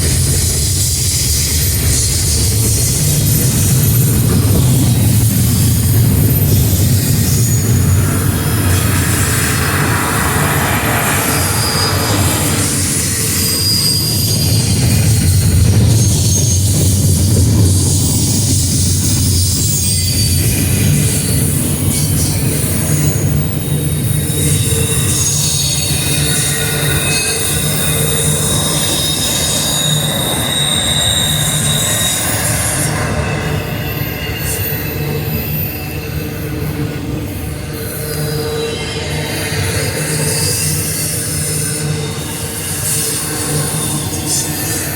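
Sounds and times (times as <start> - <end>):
high-pitched wheel squeals: 0.0 - 44.9
train wheels rumbling on rails: 0.0 - 44.9.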